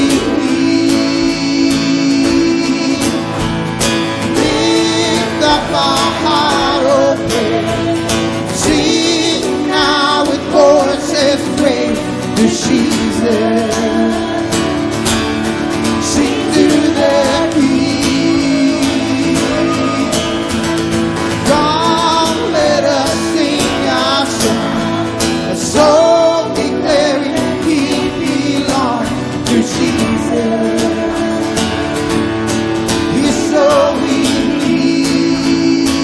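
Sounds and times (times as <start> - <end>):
band accompaniment: 0.0 - 36.0
congregation singing: 0.0 - 36.0
strummed acoustic guitar: 0.0 - 36.0.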